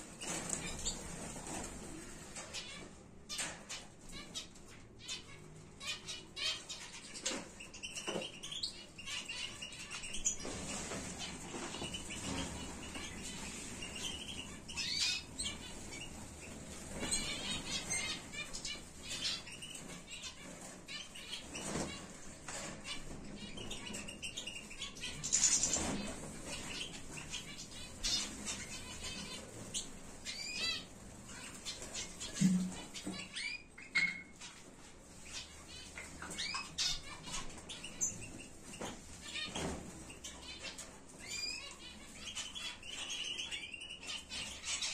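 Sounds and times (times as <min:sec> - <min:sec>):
birds chirping and twittering: 0:00.0 - 0:44.9.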